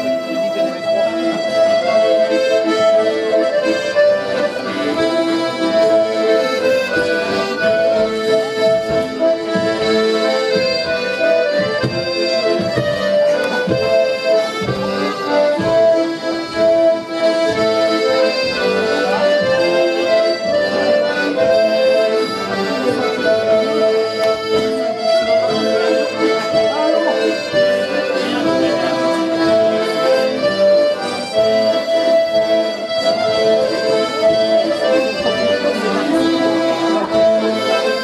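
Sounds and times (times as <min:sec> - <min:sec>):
button accordions playing: 0:00.0 - 0:38.0.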